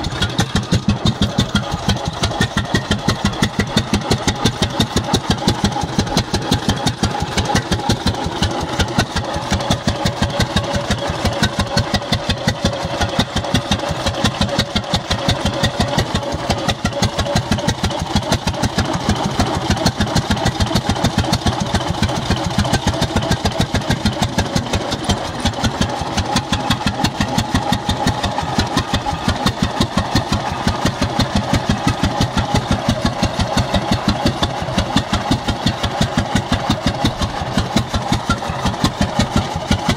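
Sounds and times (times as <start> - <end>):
tractor engine running slowly: 0.0 - 39.9.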